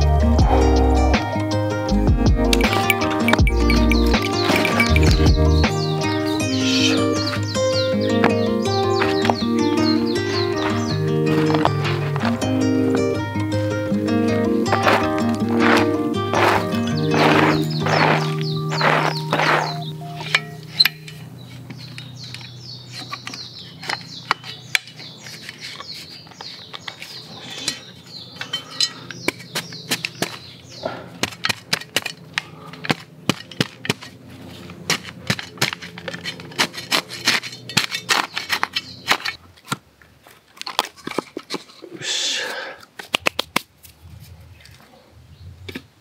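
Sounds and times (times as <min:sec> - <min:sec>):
hand tool digging soil: 0:02.5 - 0:13.5, 0:14.6 - 0:44.4.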